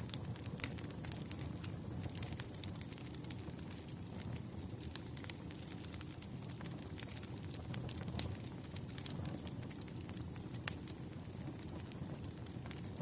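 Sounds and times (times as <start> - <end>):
firewood burning with crackles: 0.0 - 13.0.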